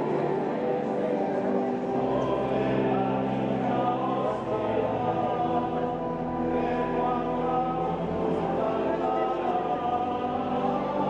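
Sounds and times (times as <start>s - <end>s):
men's choir chanting: 2.0s - 11.0s.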